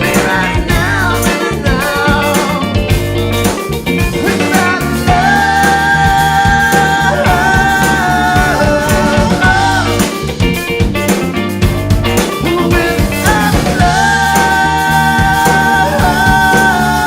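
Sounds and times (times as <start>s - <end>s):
pop-rock band playing: 0.0s - 17.0s.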